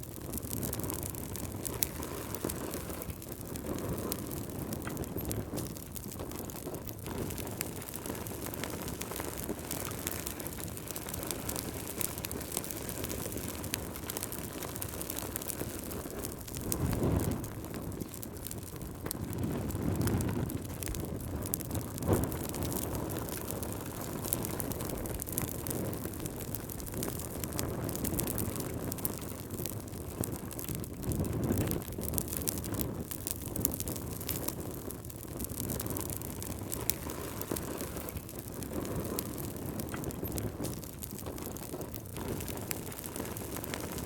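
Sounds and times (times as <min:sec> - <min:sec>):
low rush of fire: 0:00.0 - 0:44.0
wood fire crackling and popping: 0:00.0 - 0:44.0.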